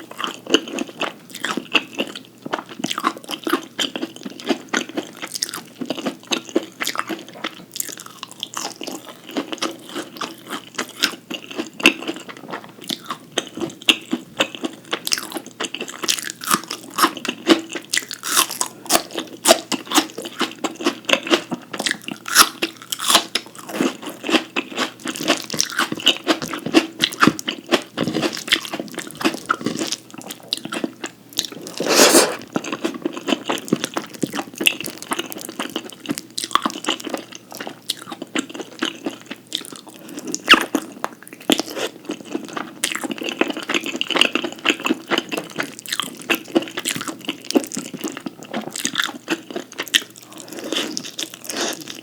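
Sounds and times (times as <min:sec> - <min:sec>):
person crunching and chewing food: 0:00.0 - 0:52.0.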